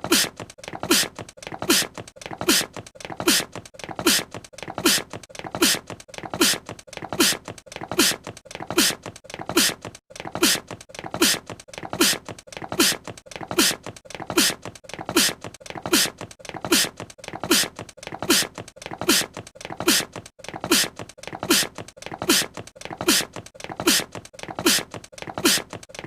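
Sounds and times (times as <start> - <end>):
cute cartoon sneeze: 0.0 - 25.8.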